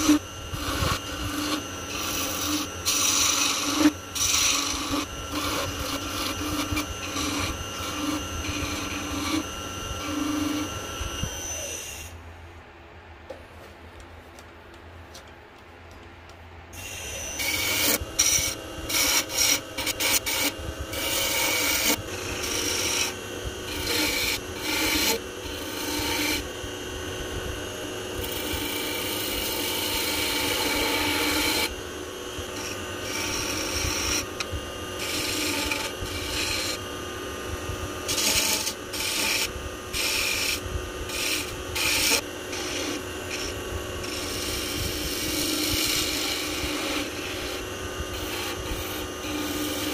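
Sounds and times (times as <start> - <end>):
gouge scraping wood on lathe: 0.0 - 11.0, 16.8 - 26.4, 28.2 - 31.7, 32.5 - 36.8, 38.1 - 49.9.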